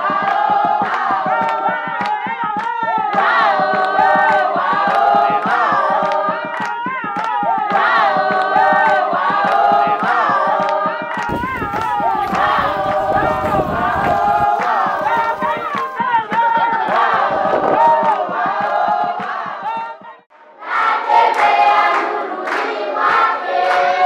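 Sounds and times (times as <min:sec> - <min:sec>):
group singing in harmony: 0:00.0 - 0:24.0
sharp claps: 0:00.1 - 0:20.3, 0:21.0 - 0:24.0.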